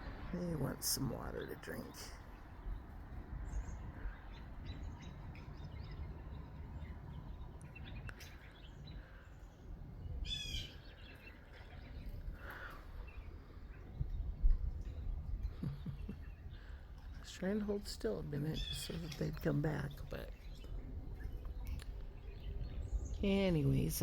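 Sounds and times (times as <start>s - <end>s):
birds calling faintly: 0.0s - 24.0s
low outdoor rumble: 0.0s - 24.0s.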